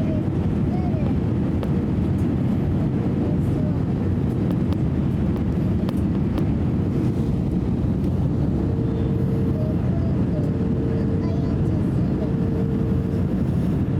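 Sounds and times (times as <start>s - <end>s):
airliner cabin drone: 0.0s - 13.9s.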